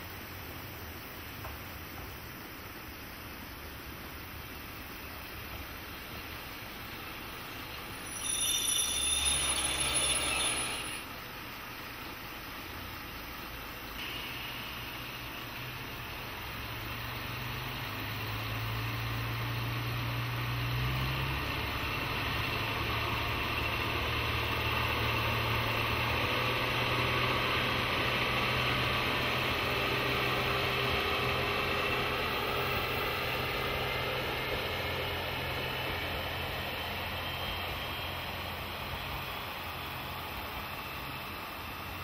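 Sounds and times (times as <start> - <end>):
diesel railcar passing: 0.0 - 42.0
wheel and rail noise: 0.0 - 42.0.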